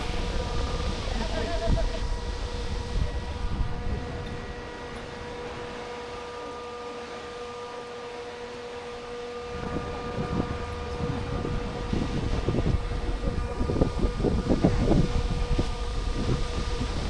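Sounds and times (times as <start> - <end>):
wind gusts on microphone: 0.0 - 6.3, 9.4 - 17.0
boat engine droning: 0.0 - 17.0.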